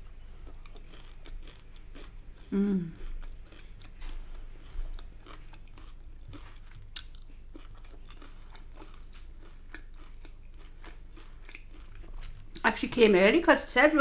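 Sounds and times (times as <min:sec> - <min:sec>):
close chewing of food: 0:00.0 - 0:12.8.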